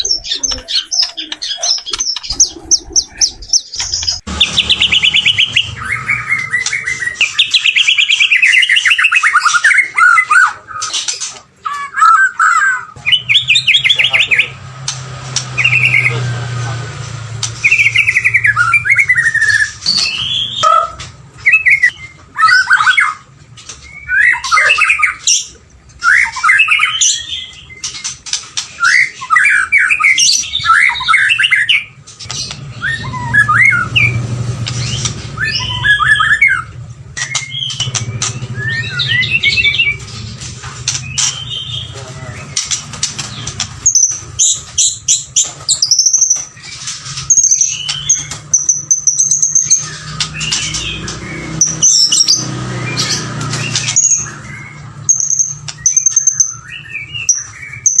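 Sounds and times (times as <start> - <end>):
songbird singing trills and whistles: 0.0 - 14.6, 15.4 - 16.3, 17.4 - 40.2, 40.8 - 58.0.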